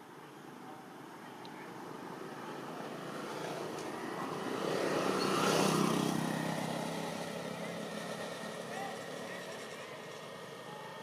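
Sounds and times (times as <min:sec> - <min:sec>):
vehicle engine approaching: 0:02.0 - 0:11.0.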